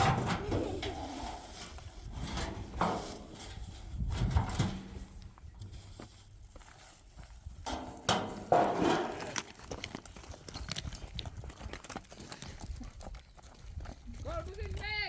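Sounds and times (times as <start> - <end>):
horse hooves clopping: 0.0 - 15.0.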